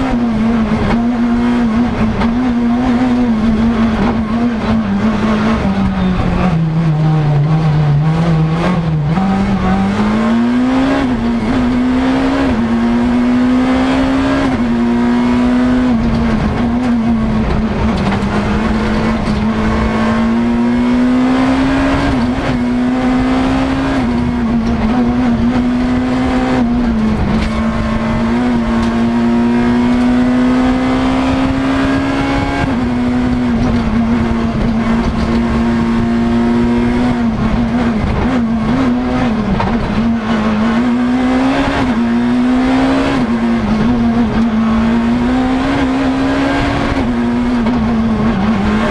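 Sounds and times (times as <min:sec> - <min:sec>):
rally car engine accelerating: 0:00.0 - 0:48.9.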